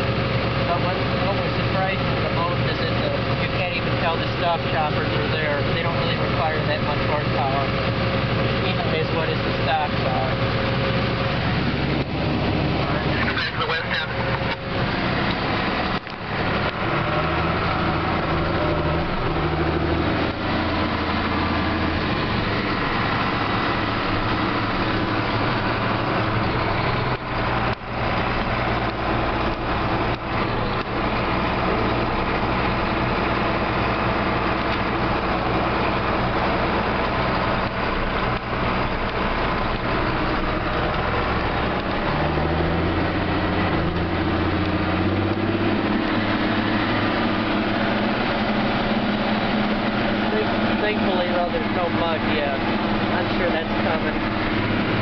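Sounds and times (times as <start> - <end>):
harvester engine drone: 0.0 - 55.0
threshing machinery hum: 0.0 - 55.0.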